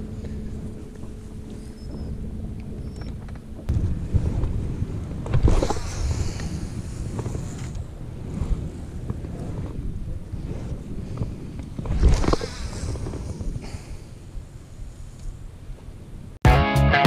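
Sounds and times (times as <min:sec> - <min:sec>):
wind on microphone: 0:00.0 - 0:16.4
microphone handling noise: 0:00.2 - 0:14.1.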